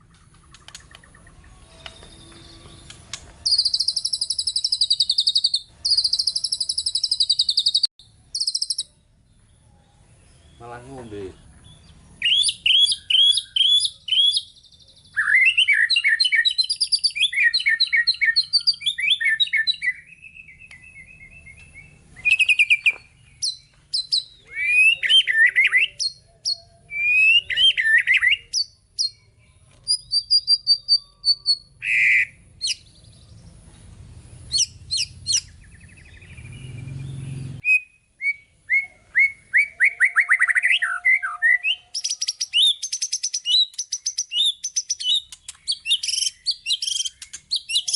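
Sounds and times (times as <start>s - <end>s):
bird singing varied song: 0.0s - 47.9s.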